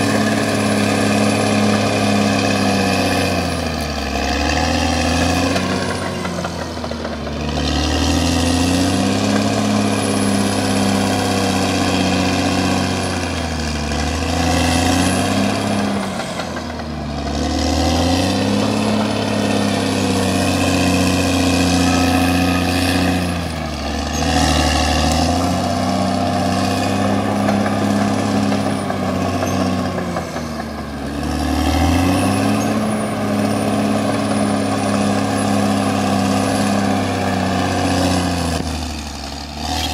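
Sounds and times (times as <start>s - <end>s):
bulldozer diesel engine revving: 0.0s - 39.9s.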